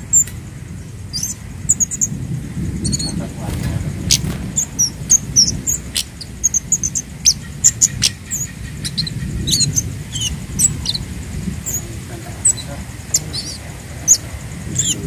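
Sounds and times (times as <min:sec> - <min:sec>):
bird chipping and twittering: 0:00.0 - 0:15.0
steady low rumble: 0:00.0 - 0:15.0.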